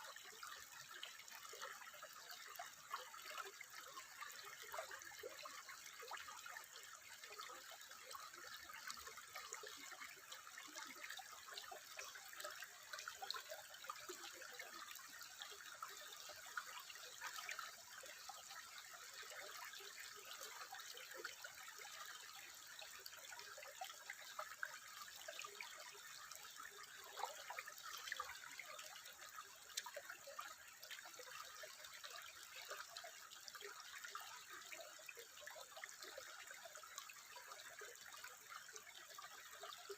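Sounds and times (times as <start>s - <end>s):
water drips and splashes: 0.0s - 39.9s
water trickling: 0.0s - 39.9s.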